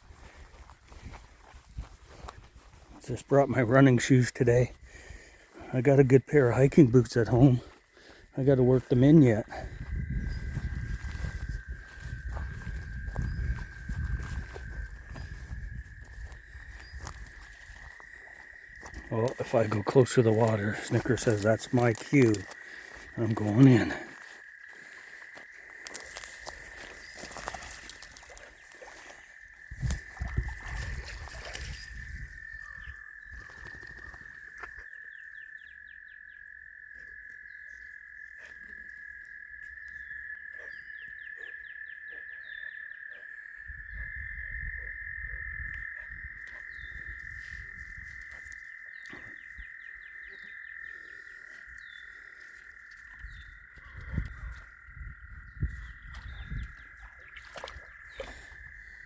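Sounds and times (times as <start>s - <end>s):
frogs trilling: 0.0s - 59.0s
quick clicking frog calls: 9.3s - 59.0s.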